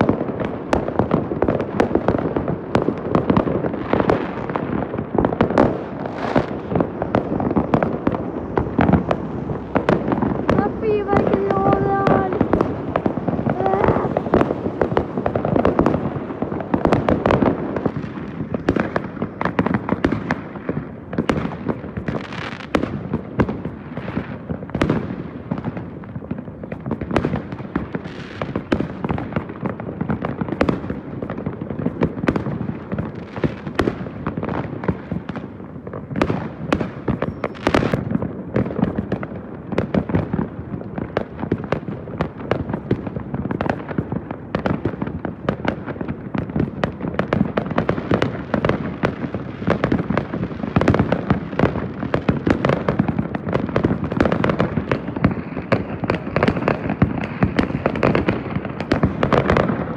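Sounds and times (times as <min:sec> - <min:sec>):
fireworks bangs and pops: 0:00.0 - 0:59.9.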